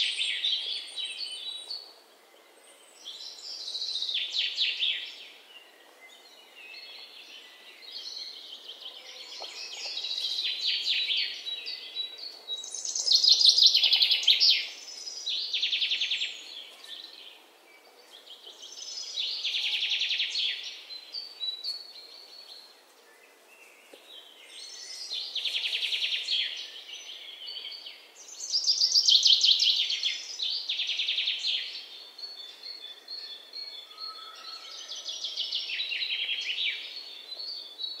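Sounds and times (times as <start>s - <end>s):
faint background hiss: 0.0s - 33.9s.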